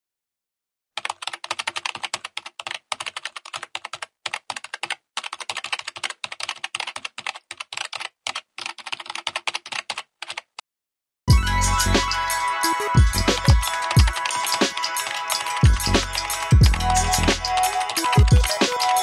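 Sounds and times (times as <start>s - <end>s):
fast keyboard typing: 1.0s - 10.6s, 12.8s - 19.0s.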